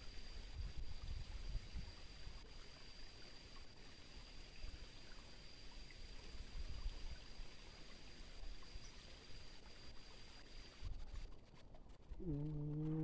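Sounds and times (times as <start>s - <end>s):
soft water hiss: 0.0s - 13.0s.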